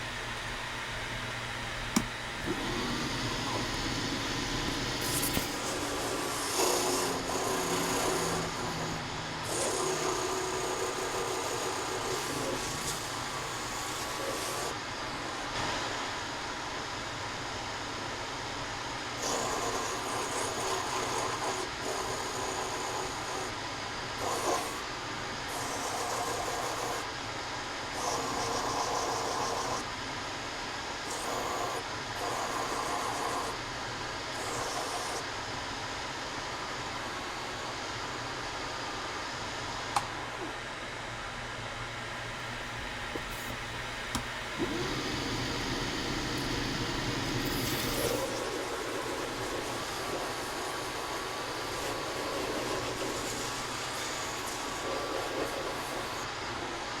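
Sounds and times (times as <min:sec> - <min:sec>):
woodworking power tool running: 0:00.0 - 0:57.0.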